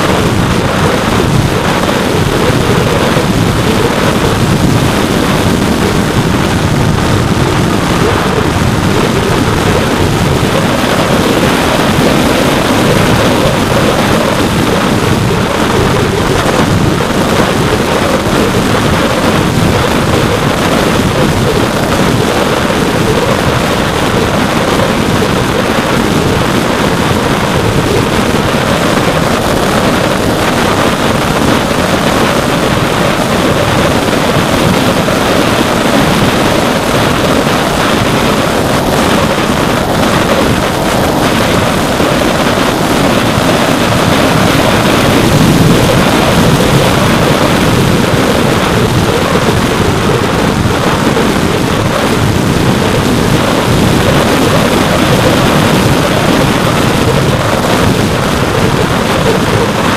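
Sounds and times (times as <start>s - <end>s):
electric motor and propeller: 0.0s - 59.9s
wind rushing over microphone: 0.0s - 59.9s.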